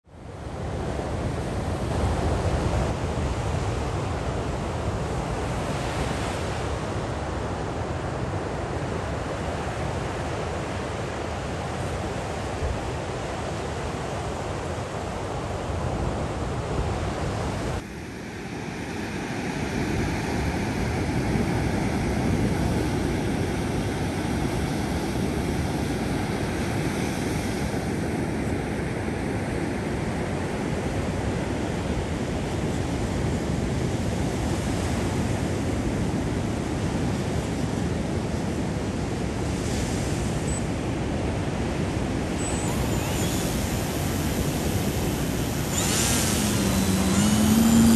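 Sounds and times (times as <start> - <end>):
ocean waves breaking on beach: 0.2 - 47.9.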